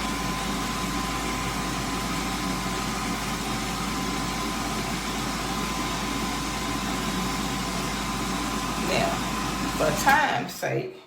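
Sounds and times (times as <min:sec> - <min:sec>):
electric hand dryer blowing: 0:00.0 - 0:10.6.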